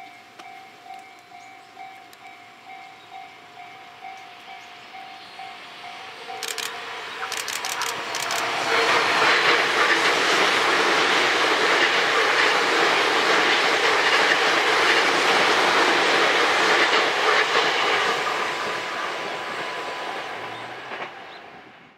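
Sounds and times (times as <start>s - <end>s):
electric train passing at speed: 0.0s - 21.9s.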